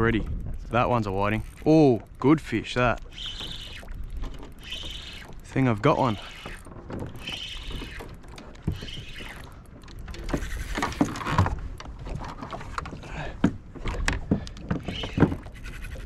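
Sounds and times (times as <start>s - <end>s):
fishing gear knocking: 0.2s - 15.5s.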